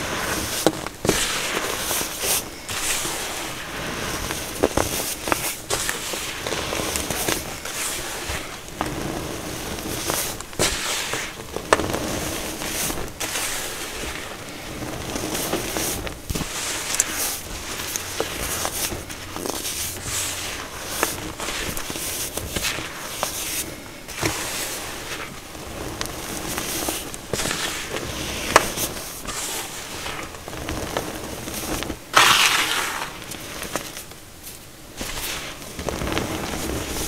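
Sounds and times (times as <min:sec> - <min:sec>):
baking soda crunching in hands: 0:00.0 - 0:34.1.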